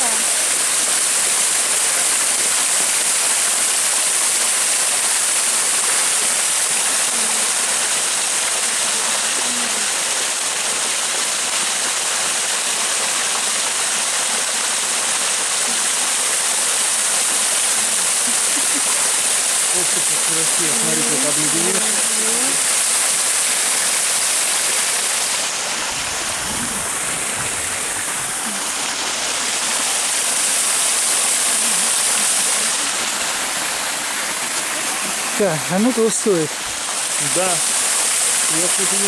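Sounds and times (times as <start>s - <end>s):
waterfall splashing into pool: 0.0s - 39.0s.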